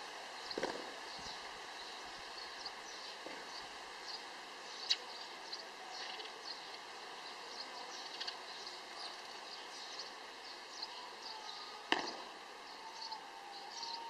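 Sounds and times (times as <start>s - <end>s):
birds chirping: 0.0s - 14.0s
faint background drone: 0.0s - 14.0s.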